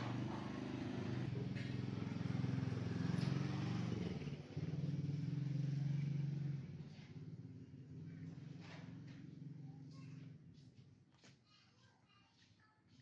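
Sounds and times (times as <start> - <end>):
engine running: 0.0 - 10.9.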